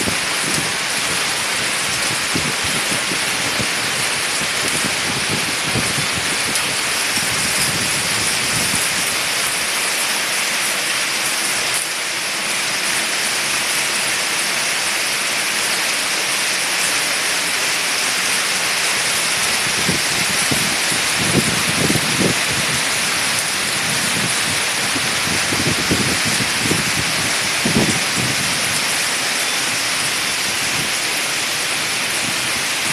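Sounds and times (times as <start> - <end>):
heavy hail and rain on pavement: 0.0 - 32.9.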